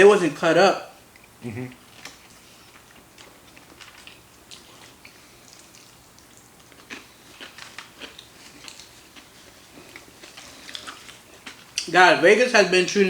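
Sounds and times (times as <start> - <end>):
chewing and mouth smacks: 1.1 - 11.9.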